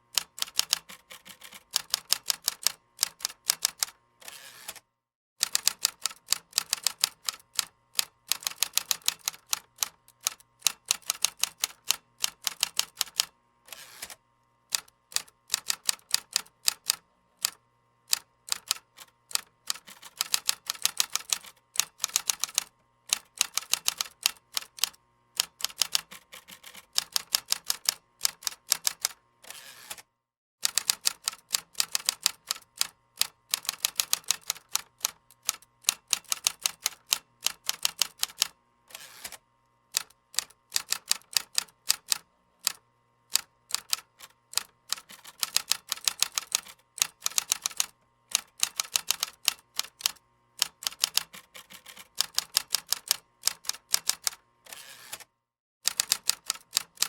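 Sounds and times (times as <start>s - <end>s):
keyboard typing: 0.2s - 4.0s, 5.4s - 13.3s, 14.7s - 29.2s, 30.6s - 32.9s, 33.5s - 38.5s, 40.0s - 42.8s, 43.4s - 54.4s, 55.9s - 57.0s.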